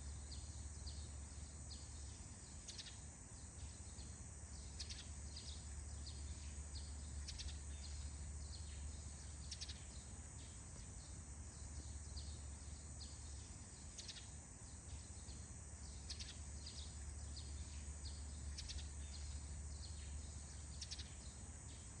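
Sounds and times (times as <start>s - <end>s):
high insect drone: 0.0s - 22.0s
small birds chirping: 0.0s - 22.0s.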